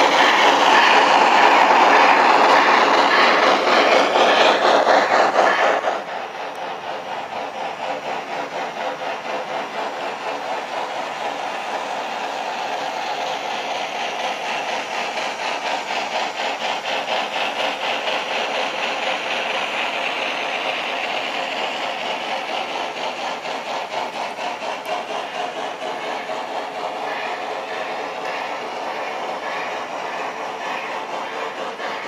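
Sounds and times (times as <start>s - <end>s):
model steam locomotive chuffing: 0.0s - 32.0s.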